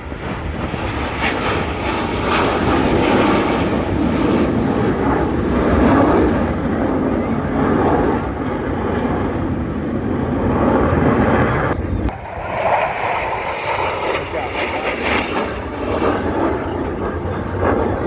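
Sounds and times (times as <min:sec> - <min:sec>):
airplane flying past: 0:00.0 - 0:18.0.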